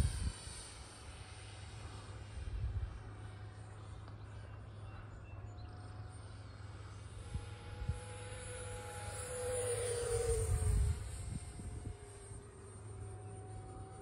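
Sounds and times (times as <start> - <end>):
model airplane propeller hum: 0.0 - 14.0.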